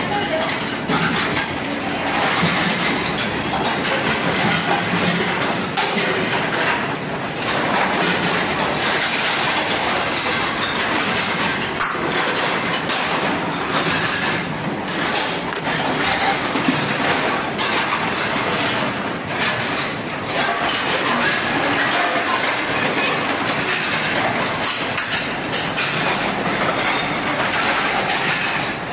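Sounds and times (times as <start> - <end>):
dishwasher running: 0.0 - 28.9
trays and dishes clattering: 0.0 - 28.9.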